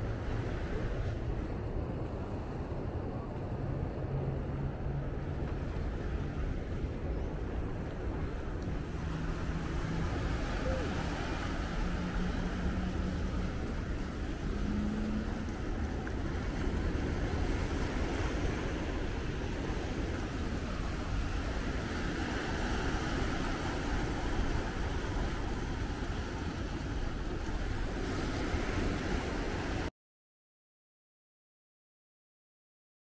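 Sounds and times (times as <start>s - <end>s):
surf washing over rocks: 0.0s - 29.9s
wind rumbling on microphone: 0.0s - 29.9s.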